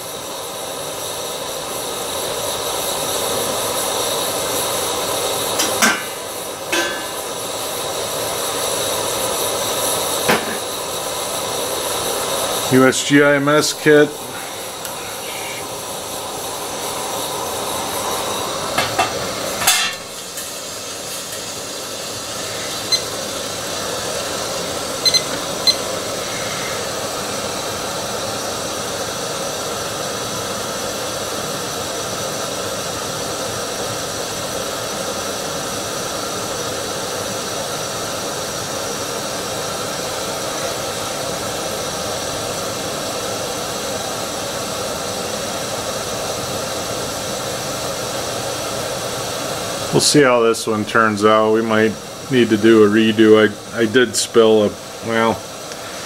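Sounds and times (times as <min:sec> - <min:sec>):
camp stove burner hissing: 0:00.0 - 0:56.0.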